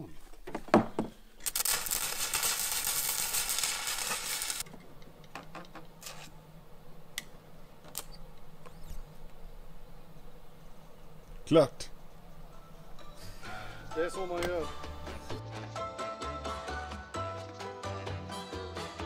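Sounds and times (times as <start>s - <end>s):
faint steady hum: 0.0s - 15.4s.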